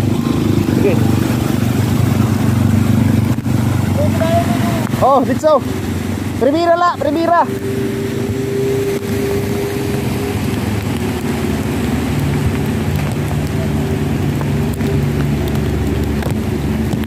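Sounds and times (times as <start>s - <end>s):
heavy rain falling: 0.0s - 17.0s
motorcycles riding through floodwater: 0.0s - 17.0s
vehicle engines humming: 0.0s - 17.0s.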